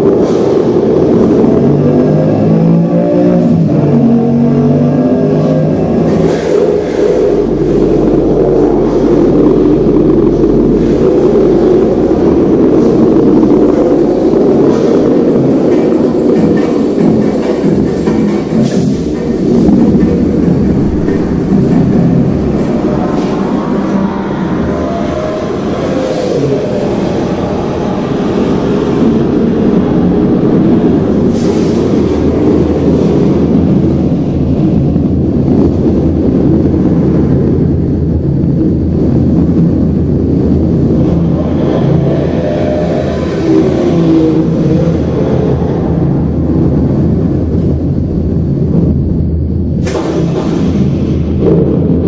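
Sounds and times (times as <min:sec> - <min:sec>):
car engine rumbling and revving: 0:00.0 - 0:52.0.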